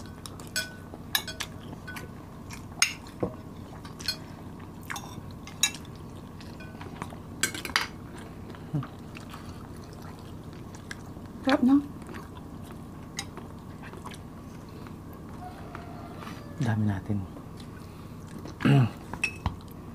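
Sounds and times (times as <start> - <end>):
faint chewing: 0.0 - 16.6, 17.3 - 19.9.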